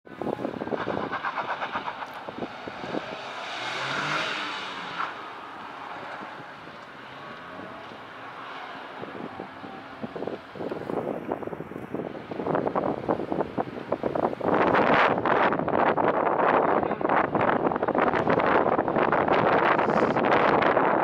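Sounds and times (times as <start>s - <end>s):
car engine working hard: 0.1s - 20.8s.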